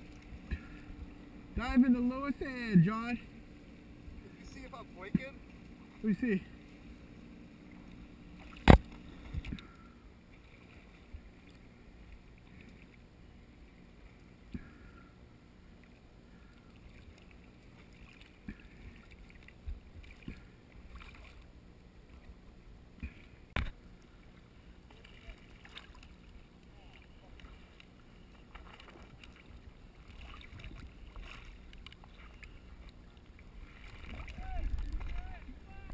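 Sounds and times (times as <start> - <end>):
water lapping and splashing: 0.0 - 35.9.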